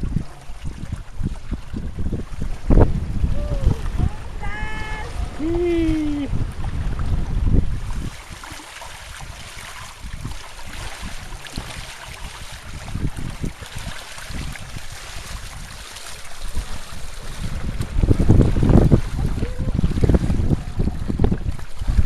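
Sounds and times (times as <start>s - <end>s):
water rushing along hulls: 0.0s - 22.0s
wind buffeting microphone: 0.0s - 22.0s.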